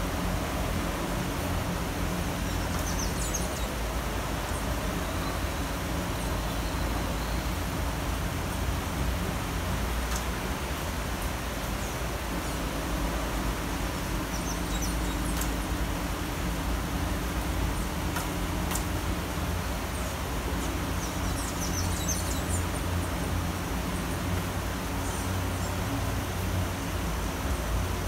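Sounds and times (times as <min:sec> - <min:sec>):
low traffic rumble: 0:00.0 - 0:28.0
steady rain: 0:00.0 - 0:28.0.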